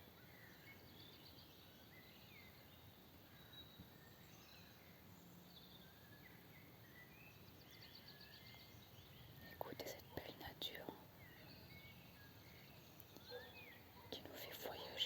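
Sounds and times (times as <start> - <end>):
faint steady hiss: 0.0 - 15.0
small birds chirping: 0.0 - 15.0.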